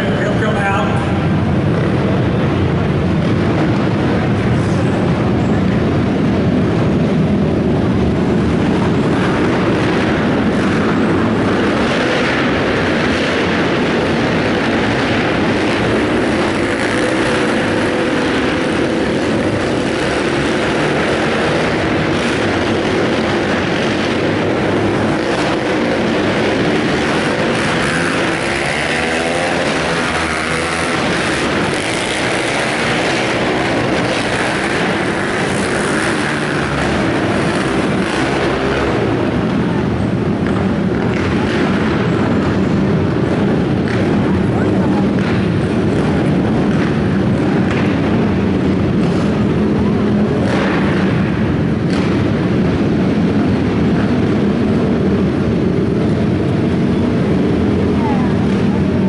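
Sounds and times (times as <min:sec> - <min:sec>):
quad engines running hard: 0:00.0 - 0:59.0.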